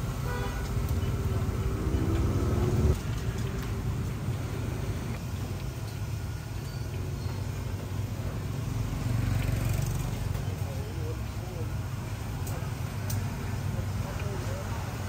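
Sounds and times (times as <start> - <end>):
motorbike engines: 0.0 - 15.0
street traffic rumble: 0.0 - 15.0.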